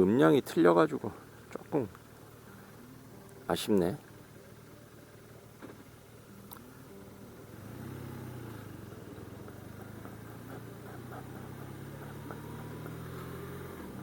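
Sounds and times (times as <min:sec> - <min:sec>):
motorcycle engine running: 0:01.1 - 0:14.0.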